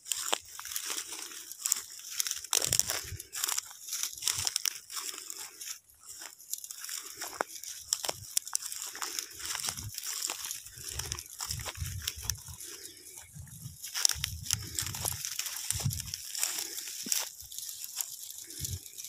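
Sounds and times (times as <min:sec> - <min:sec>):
dry straw crunching and crackling: 0:00.0 - 0:19.0.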